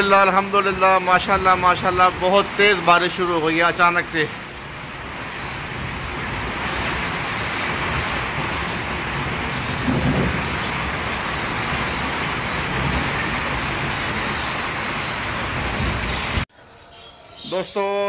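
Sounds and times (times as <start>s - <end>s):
heavy rain pouring: 0.0s - 16.5s.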